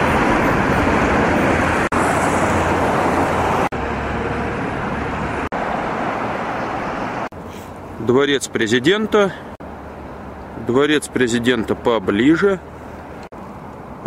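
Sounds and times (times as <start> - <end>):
city traffic passing cars: 0.0 - 14.0.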